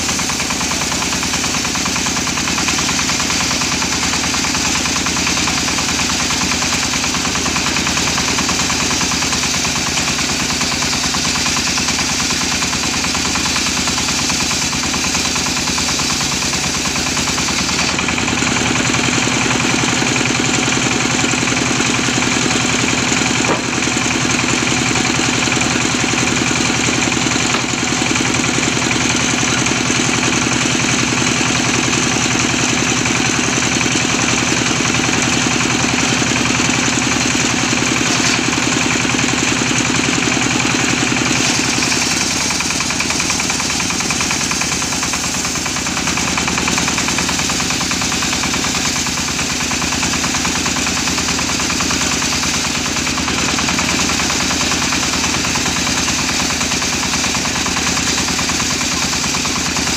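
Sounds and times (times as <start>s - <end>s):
circular saw cutting wood: 0.0s - 59.9s
engine running: 0.0s - 59.9s.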